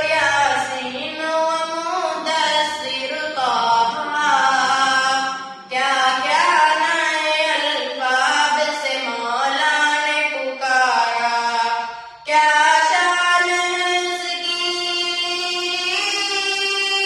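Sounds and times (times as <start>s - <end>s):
boy singing devotional song: 0.0s - 17.0s.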